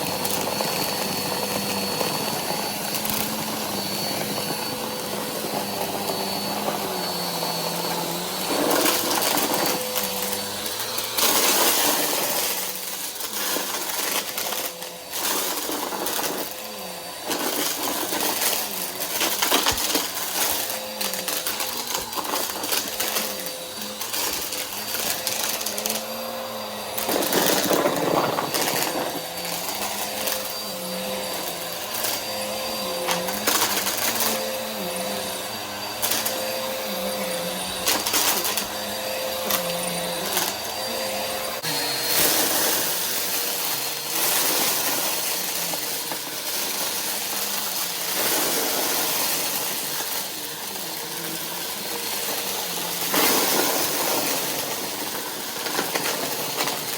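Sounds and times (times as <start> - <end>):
vacuum cleaner motor hum: 0.0 - 56.9
confetti crunching in vacuum: 7.0 - 56.9.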